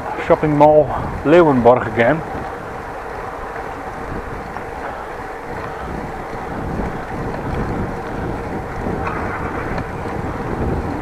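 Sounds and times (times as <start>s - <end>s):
road noise rumble: 0.0s - 11.0s
wind rushing over microphone: 0.0s - 11.0s.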